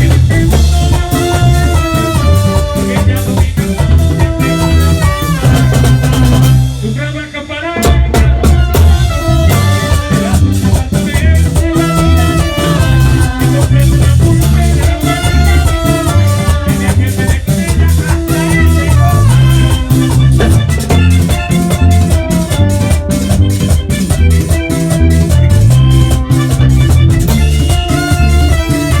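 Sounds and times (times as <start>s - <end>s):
accordion playing melody: 0.0s - 29.0s
bass and drums: 0.0s - 29.0s.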